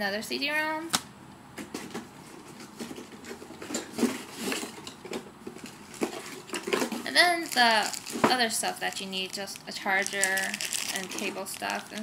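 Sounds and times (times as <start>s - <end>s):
packaging rustling and clicking: 1.8s - 12.0s.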